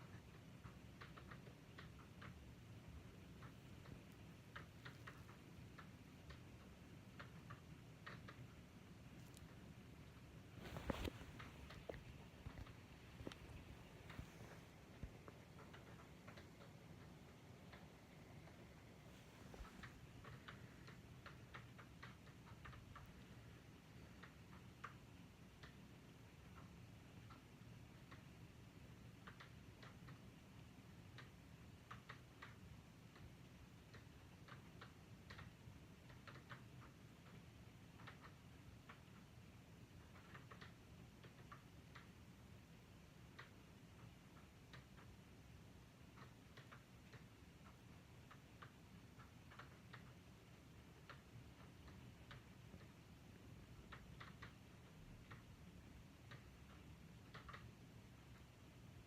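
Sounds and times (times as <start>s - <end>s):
faint sharp clicks: 0.0s - 59.0s
faint ticks: 0.0s - 59.0s
low steady hum: 0.0s - 59.0s.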